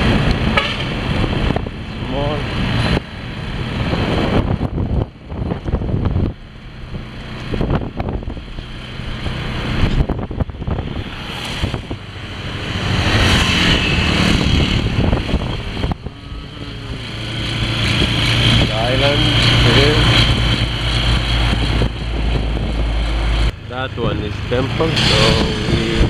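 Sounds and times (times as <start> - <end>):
vehicles passing: 0.0 - 26.0
wind on microphone: 0.0 - 26.0.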